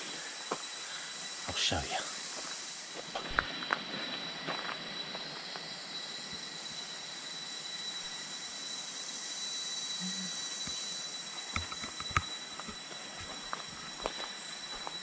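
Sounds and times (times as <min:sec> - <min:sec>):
constant high tone: 0:00.0 - 0:15.0
insect chorus hissing: 0:00.0 - 0:15.0.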